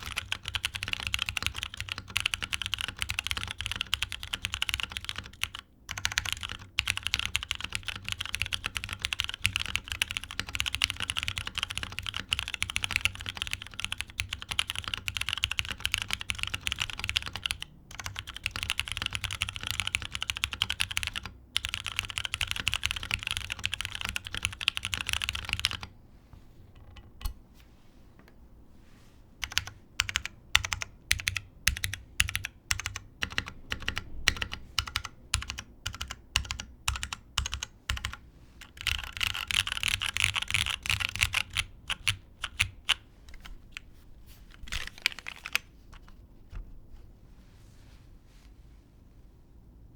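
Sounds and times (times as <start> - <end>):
mechanical keyboard typing: 0.0 - 25.9, 29.4 - 43.9, 44.5 - 46.1.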